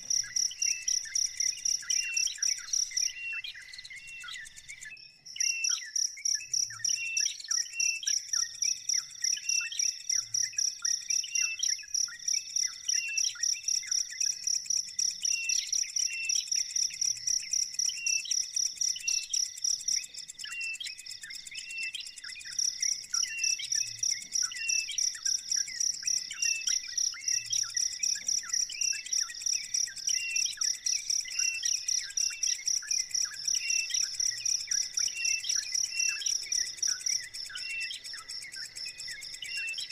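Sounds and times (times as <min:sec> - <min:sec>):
bird chirping: 0:00.0 - 0:39.9
cricket trilling: 0:00.0 - 0:39.9.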